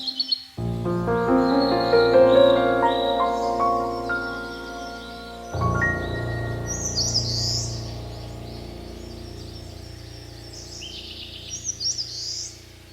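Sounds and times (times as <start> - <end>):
birds chirping: 0.0 - 12.9
soft background music chord: 0.0 - 12.9.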